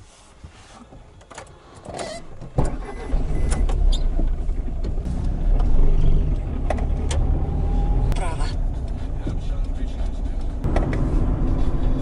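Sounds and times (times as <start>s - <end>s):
car engine and road rumble: 0.1s - 12.0s.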